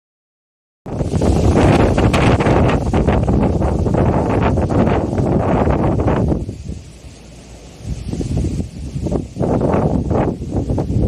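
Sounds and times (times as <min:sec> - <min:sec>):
wind buffeting microphone: 0:00.9 - 0:11.0.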